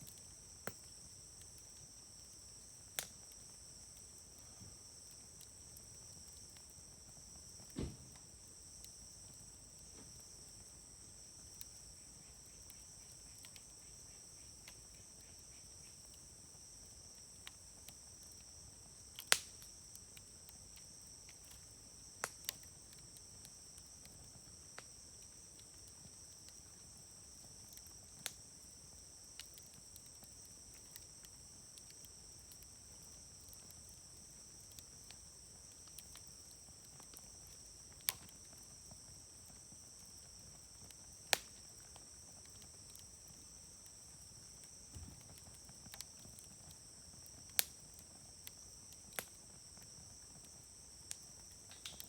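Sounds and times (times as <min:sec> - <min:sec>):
wood fire crackling and popping: 0:00.0 - 0:09.1, 0:11.4 - 0:52.0.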